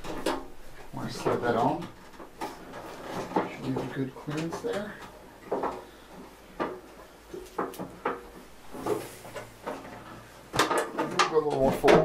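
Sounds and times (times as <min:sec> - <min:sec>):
hard parts knocking and clunking: 0:00.0 - 0:12.0.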